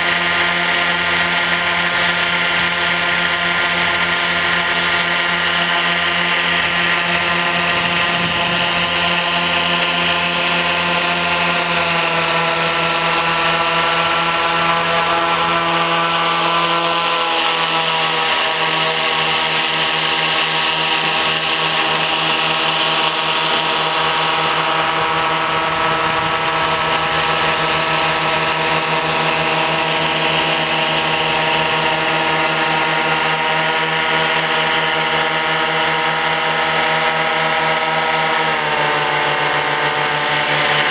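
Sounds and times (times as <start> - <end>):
propeller motors droning: 0.0 - 40.9.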